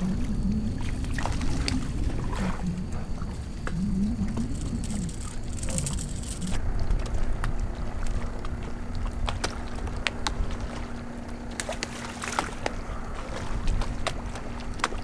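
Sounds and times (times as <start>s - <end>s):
rumbling wind and water: 0.0s - 15.0s
steady low hum: 0.0s - 15.0s.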